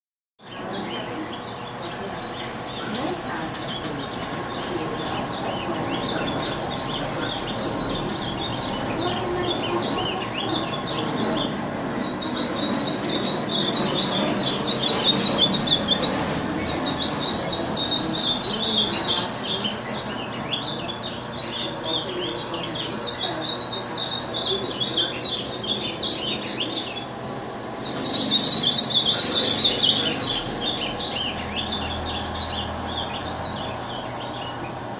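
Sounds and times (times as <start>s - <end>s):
songbirds chirping: 0.4s - 34.9s.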